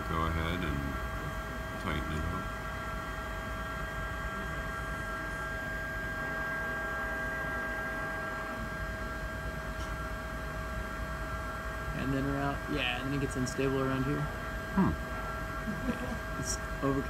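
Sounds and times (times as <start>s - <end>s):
electrical hum with high tones: 0.0s - 17.0s.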